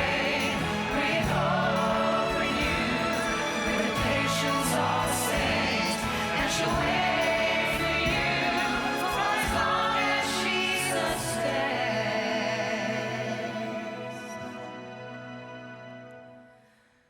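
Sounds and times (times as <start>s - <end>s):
choir singing with instruments: 0.0s - 15.6s.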